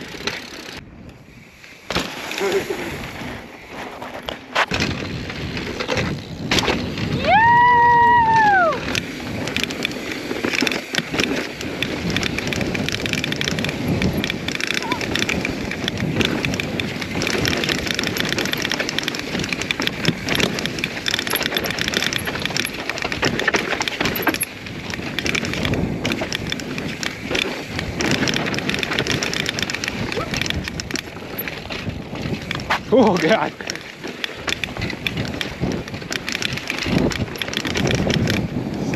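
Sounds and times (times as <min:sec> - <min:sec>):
bike clattering and ticking: 0:00.0 - 0:01.2, 0:01.9 - 0:38.9.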